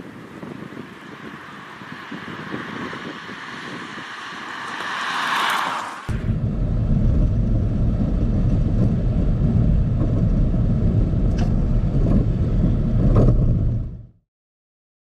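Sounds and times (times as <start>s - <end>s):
tyre rumbling on asphalt: 0.0s - 14.1s
wind buffeting camera: 0.0s - 14.1s.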